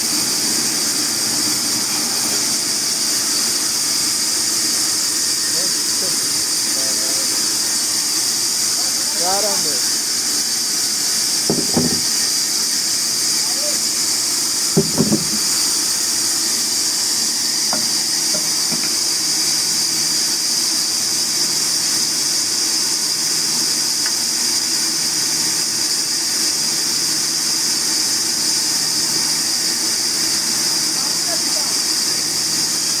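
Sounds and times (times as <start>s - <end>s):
sawmill saw running: 0.0s - 33.0s.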